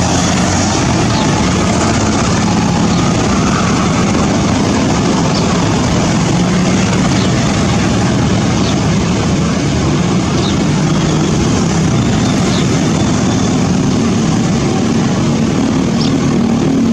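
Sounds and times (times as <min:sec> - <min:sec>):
waterfall roaring: 0:00.0 - 0:16.9.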